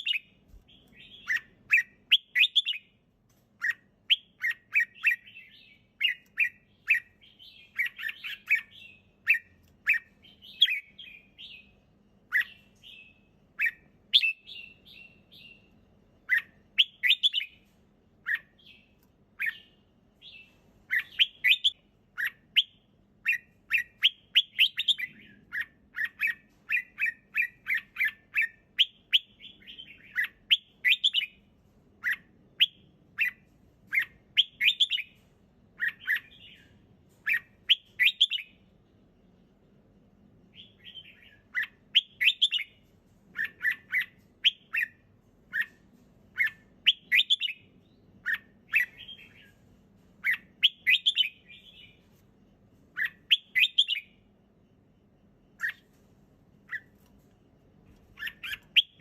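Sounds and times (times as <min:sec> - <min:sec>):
bird chirping song: 0:00.0 - 0:59.0.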